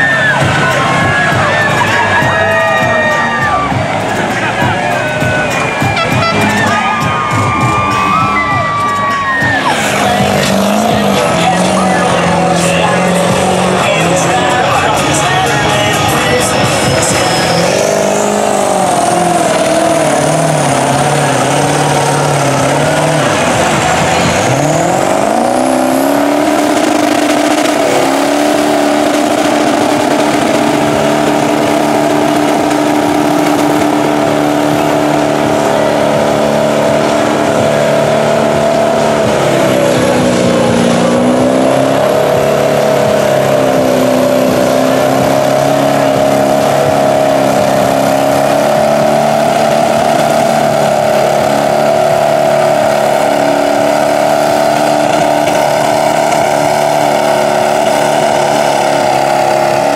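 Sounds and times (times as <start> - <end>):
diesel truck engines revving: 0.0 - 59.9.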